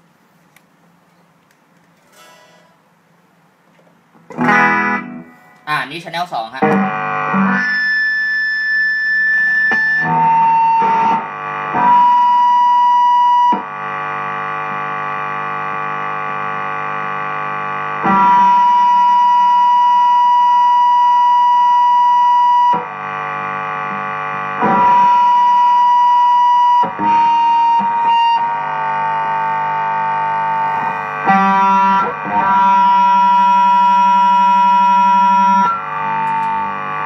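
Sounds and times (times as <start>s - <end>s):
low amplifier hum: 0.0s - 37.0s
guitar feedback squeal: 2.1s - 2.9s, 4.3s - 5.7s, 6.6s - 14.2s, 15.0s - 37.0s.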